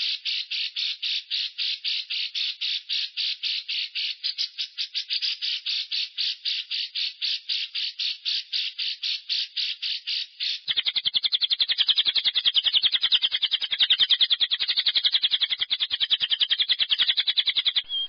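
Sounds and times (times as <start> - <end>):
lovebird chattering call: 0.0 - 18.0.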